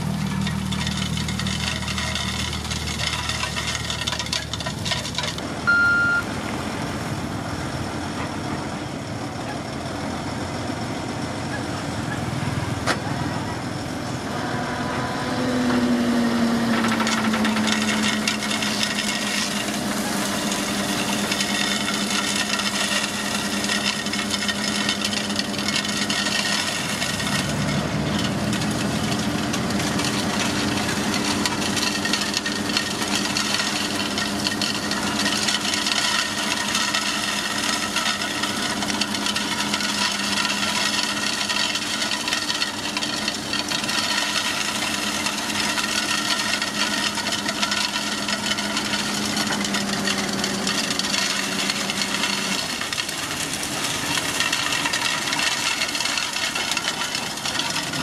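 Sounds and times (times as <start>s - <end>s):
gravel pouring from truck bed: 0.0s - 7.9s, 13.8s - 58.0s
diesel truck engine running: 0.0s - 58.0s.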